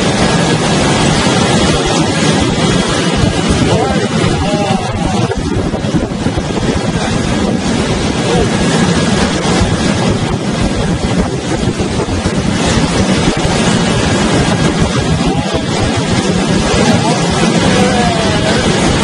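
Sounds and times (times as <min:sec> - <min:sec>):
breaking waves: 0:00.0 - 0:19.0
low rumble: 0:00.0 - 0:19.0
storm wind buffeting microphone: 0:00.0 - 0:19.0.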